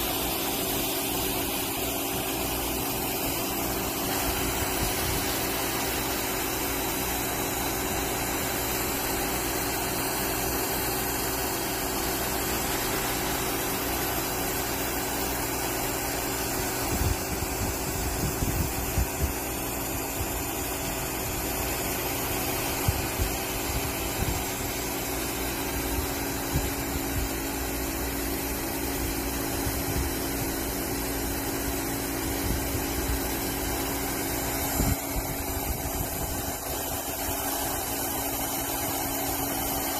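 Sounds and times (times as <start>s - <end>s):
welding machine hum and hiss: 0.0s - 39.9s.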